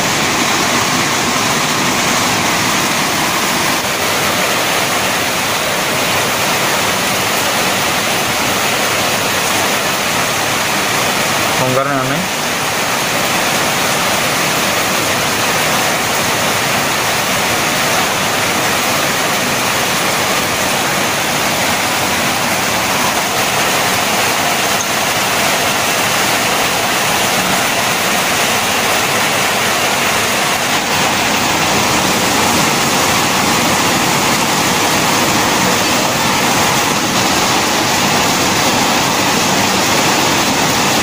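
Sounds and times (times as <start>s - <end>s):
loud steady rushing noise: 0.0s - 41.0s.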